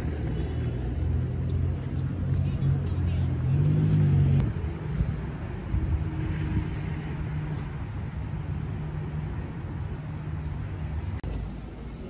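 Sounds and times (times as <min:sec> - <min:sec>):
traffic rumble: 0:00.0 - 0:12.0
vehicle engine hum: 0:00.0 - 0:12.0.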